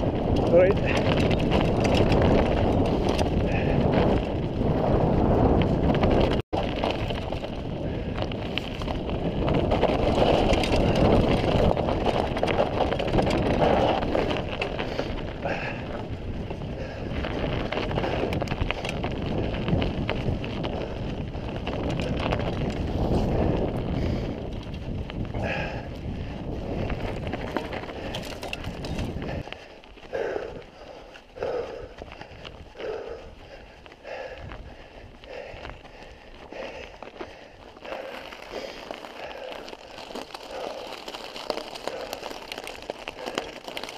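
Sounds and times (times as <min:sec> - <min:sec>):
bike rattles and knocks: 0:00.0 - 0:33.0, 0:33.6 - 0:43.9
bike tyres rumbling: 0:00.0 - 0:43.9
wind buffeting microphone: 0:00.0 - 0:43.9.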